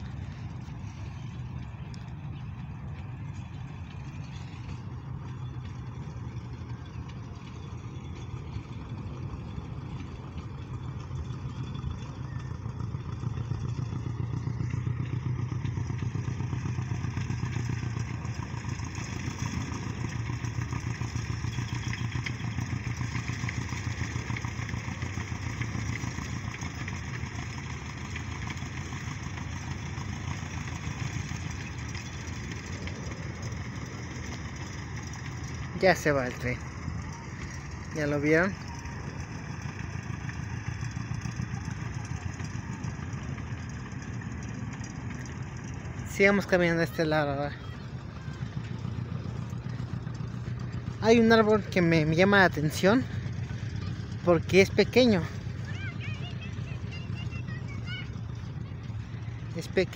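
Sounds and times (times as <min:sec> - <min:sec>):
train engine running: 0:00.0 - 0:59.9.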